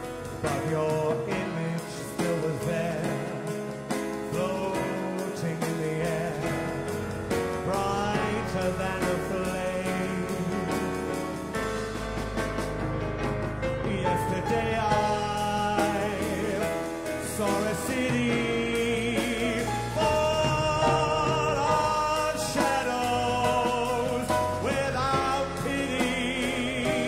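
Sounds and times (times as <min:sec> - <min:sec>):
steady accompaniment: 0:00.0 - 0:27.0.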